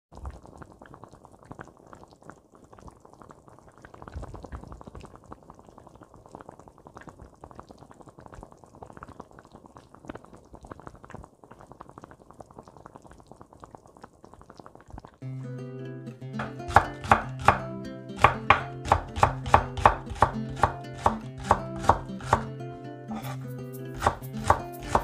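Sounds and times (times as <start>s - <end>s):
stew bubbling at a boil: 0.1s - 15.3s, 16.3s - 25.0s.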